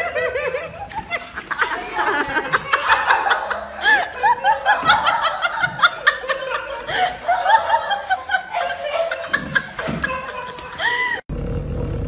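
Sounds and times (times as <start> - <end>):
high-pitched laughter: 0.0 - 11.2.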